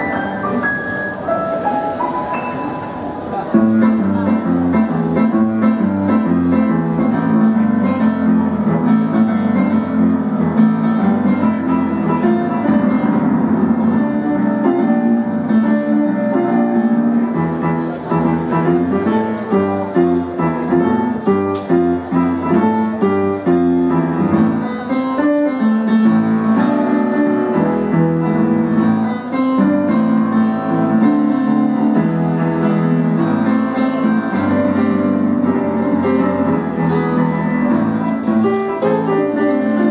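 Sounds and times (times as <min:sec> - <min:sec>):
solo piano: 0:00.0 - 0:39.9.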